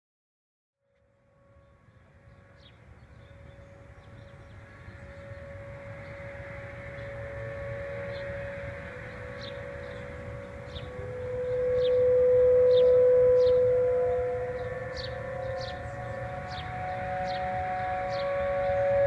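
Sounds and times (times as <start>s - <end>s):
distant tornado warning siren wailing: 0.9s - 19.0s
second siren tone rising in pitch: 0.9s - 19.0s
low wind rumble: 1.0s - 19.0s.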